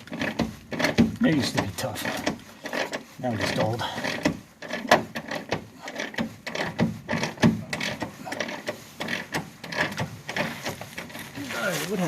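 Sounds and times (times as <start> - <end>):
hand tools clicking and knocking metal: 0.0 - 12.0.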